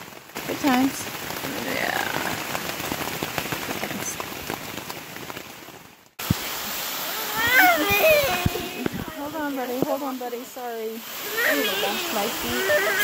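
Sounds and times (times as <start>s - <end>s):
rain on tent fabric: 0.0s - 13.0s.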